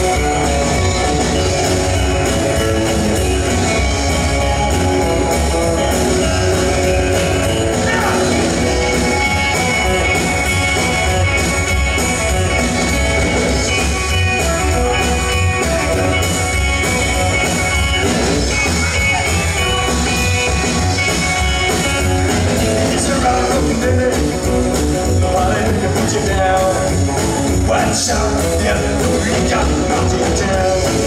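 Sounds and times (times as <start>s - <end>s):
live rock and roll band: 0.0s - 31.0s.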